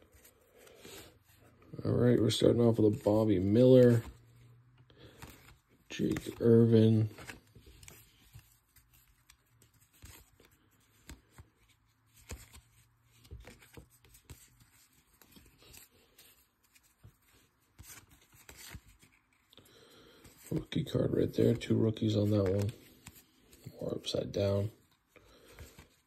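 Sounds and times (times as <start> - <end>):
paper cards flipping: 2.4 - 26.0.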